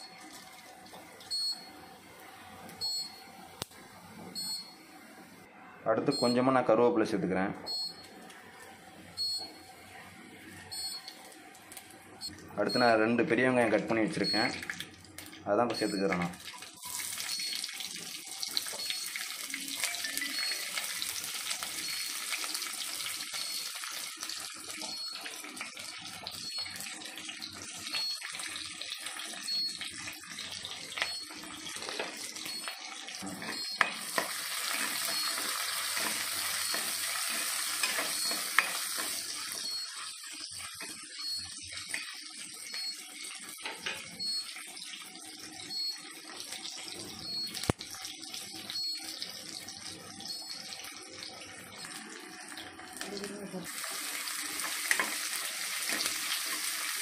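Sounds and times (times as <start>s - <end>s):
onions frying in oil: 0.0s - 3.8s, 7.9s - 57.0s.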